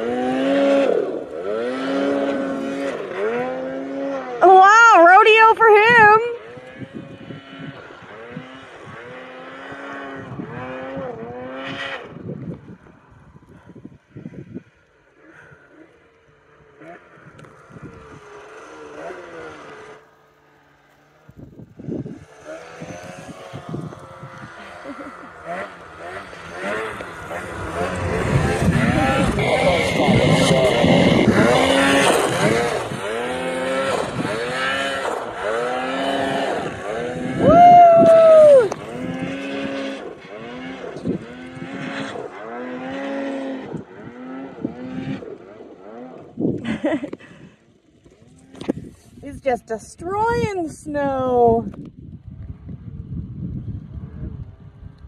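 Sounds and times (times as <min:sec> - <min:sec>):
snowmobile engine revving: 0:00.0 - 0:51.6.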